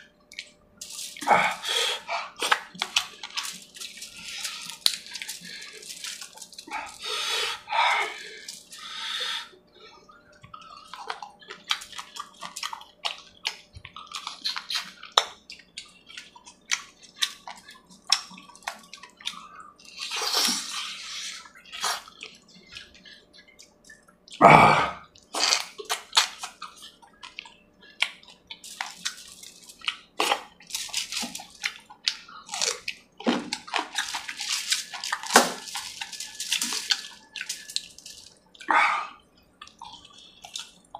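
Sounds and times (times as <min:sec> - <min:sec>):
wet chewing and lip smacking: 0:00.2 - 0:24.4, 0:25.0 - 0:40.9.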